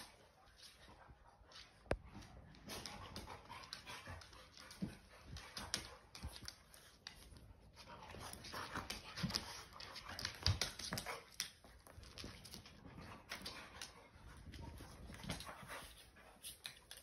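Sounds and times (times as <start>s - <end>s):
dogs scuffling: 0.0s - 17.0s
paws clicking on hardwood floor: 0.0s - 17.0s.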